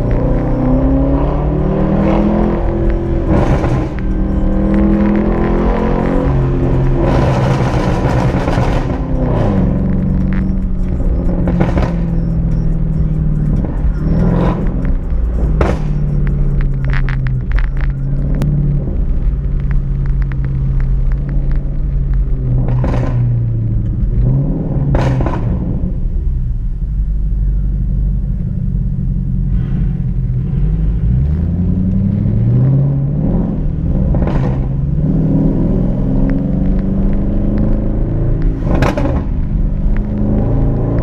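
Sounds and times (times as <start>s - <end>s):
exhaust pops and crackles: 0.0s - 30.5s, 33.8s - 41.0s
car exhaust droning: 0.0s - 41.0s.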